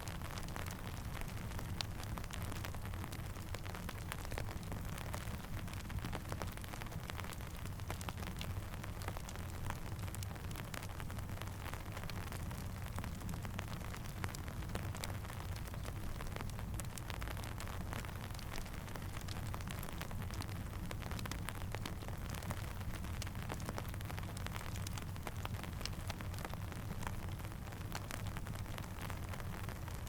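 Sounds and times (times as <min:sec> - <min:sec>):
campfire crackling: 0:00.0 - 0:30.0
steady rain hiss: 0:00.0 - 0:30.0.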